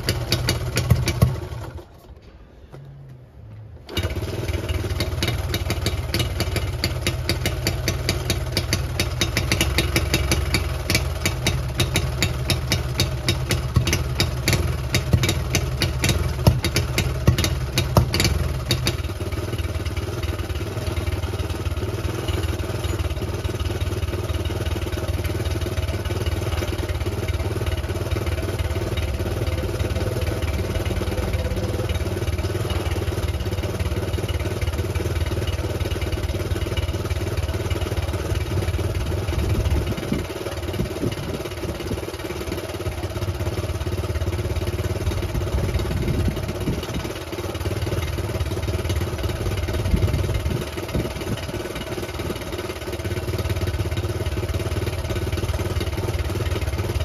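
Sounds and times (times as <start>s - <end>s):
motorcycle engine running: 0.0s - 2.0s, 3.9s - 57.0s.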